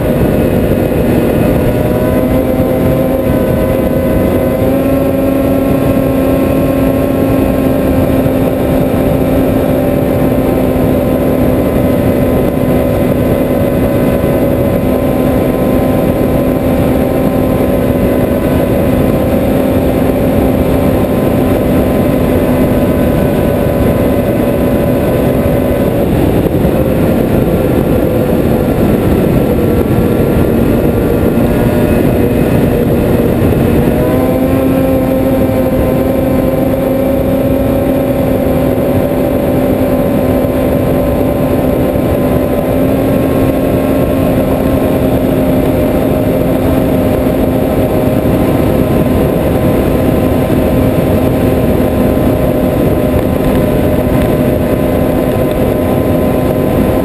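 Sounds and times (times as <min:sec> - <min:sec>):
rushing wind and track noise: 0:00.0 - 0:57.0
snowmobile engine running: 0:00.0 - 0:57.0.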